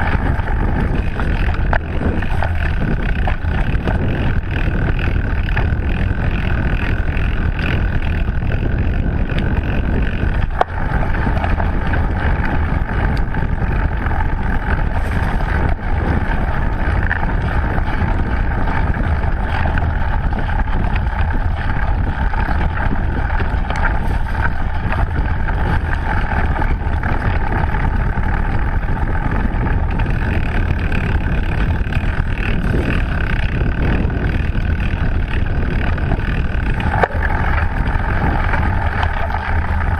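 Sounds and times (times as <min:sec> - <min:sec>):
bike tyres rolling over dirt trail: 0:00.0 - 0:39.9
wind buffeting microphone: 0:00.0 - 0:39.9.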